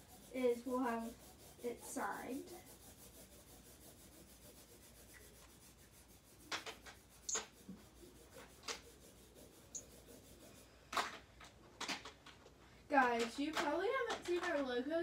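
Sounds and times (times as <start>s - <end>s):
marker scratching on bags: 0.0s - 15.0s.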